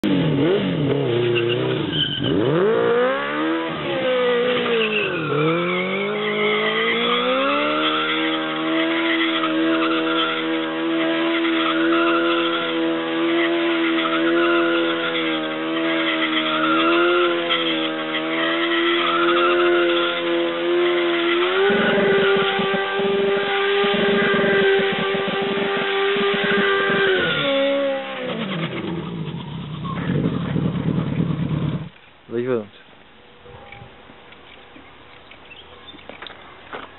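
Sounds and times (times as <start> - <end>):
motorcycle engine revving high: 0.0 - 31.9
tyre spinning on tarmac: 1.3 - 31.9.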